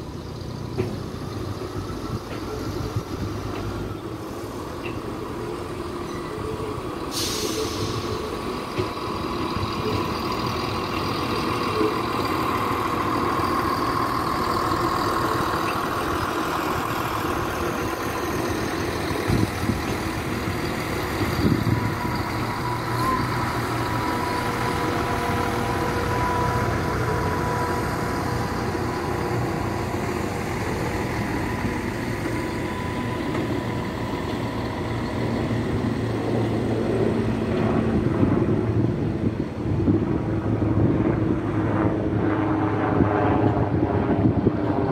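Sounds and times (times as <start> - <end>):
diesel train engines running: 0.0 - 44.9
train whine: 0.0 - 44.9.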